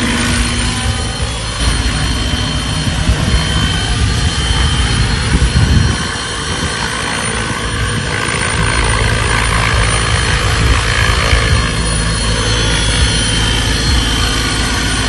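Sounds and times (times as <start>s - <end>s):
helicopter rotor blades chopping: 0.0s - 15.0s
high turbine whine: 0.0s - 15.0s.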